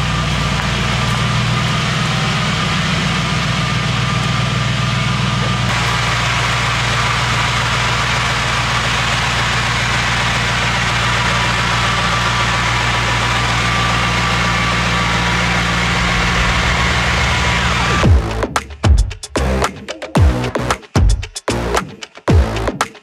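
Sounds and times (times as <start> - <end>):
car engine idling: 0.0 - 21.7.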